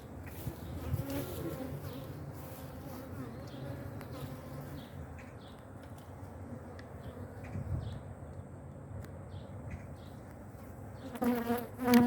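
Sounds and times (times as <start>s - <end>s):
bees buzzing around hive: 0.0s - 8.1s, 10.3s - 12.0s.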